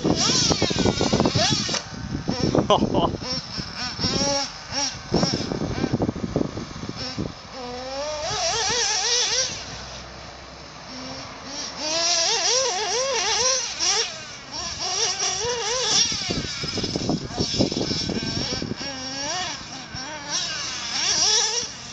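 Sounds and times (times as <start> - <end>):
small nitro engine revving: 0.0 - 21.9.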